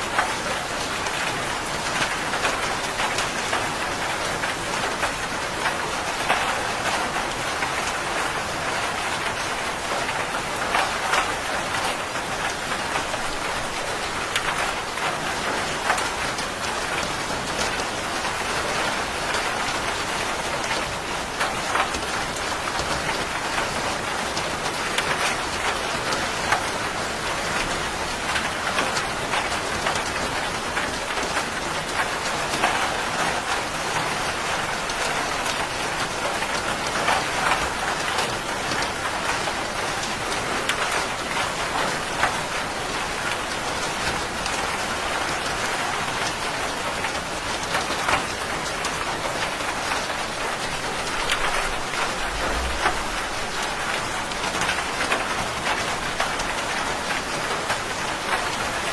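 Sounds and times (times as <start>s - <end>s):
heavy rain pattering: 0.0s - 58.9s.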